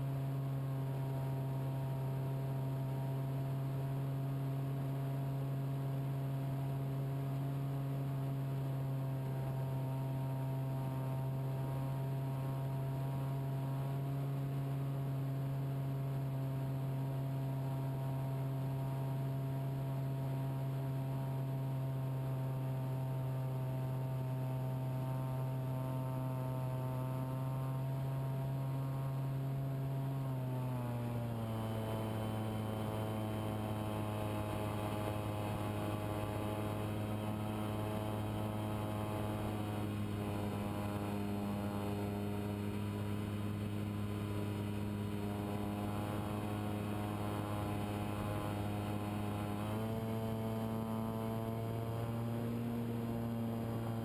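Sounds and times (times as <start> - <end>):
model airplane motor droning: 0.0 - 54.0.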